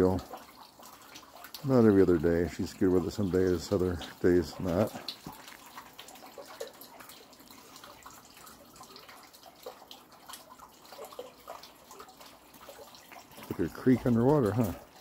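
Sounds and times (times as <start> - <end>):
water trickling in a drain: 0.0 - 15.0.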